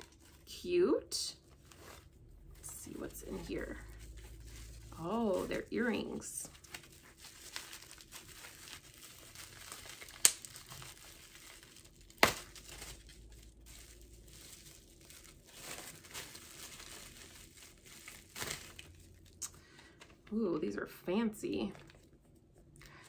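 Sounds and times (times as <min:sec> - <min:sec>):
rustling and crinkling of packaging: 0:00.0 - 0:23.0.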